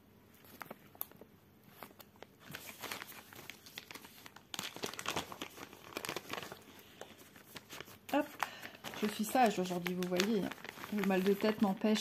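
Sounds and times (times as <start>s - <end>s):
paper crinkling and rustling: 0.3s - 12.0s.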